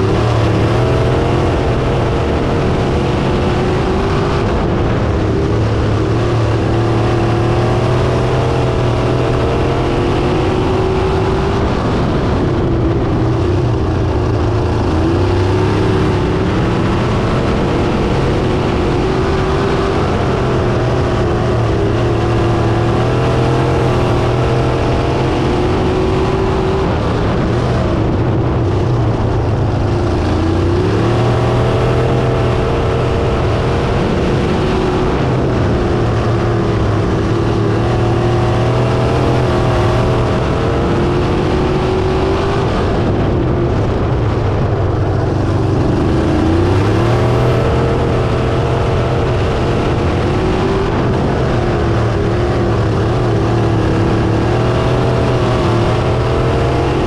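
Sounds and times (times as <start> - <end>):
race car engine at racing speed: 0.0 - 57.0.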